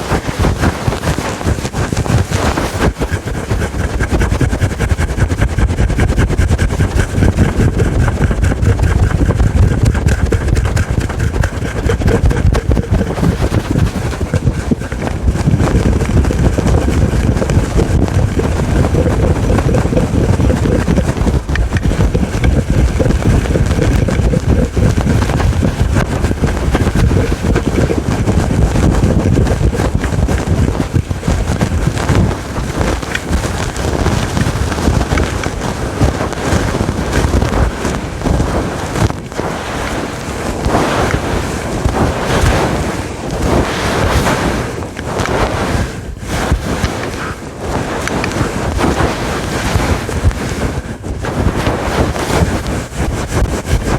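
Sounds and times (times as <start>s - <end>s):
fingers scratching windscreen cover: 0.0s - 53.9s.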